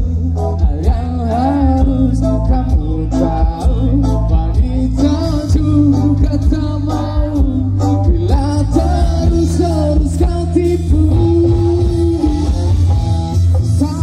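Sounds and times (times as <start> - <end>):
live band music over pa: 0.0 - 14.0.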